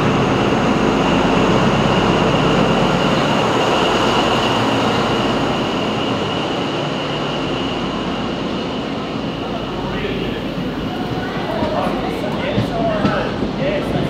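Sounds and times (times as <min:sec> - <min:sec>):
steady high-pitched tone: 0:00.0 - 0:12.2
locomotive engine running: 0:00.0 - 0:14.0
rail noise: 0:00.0 - 0:14.0.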